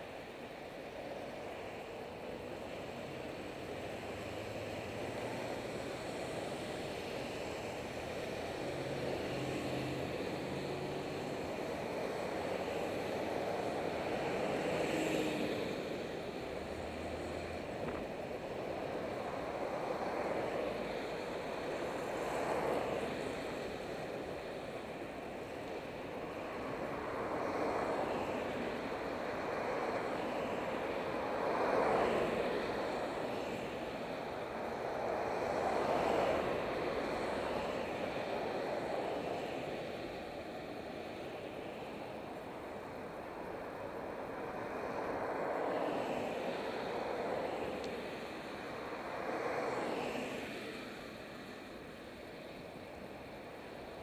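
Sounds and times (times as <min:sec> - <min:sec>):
passing road traffic: 0:00.0 - 0:54.0.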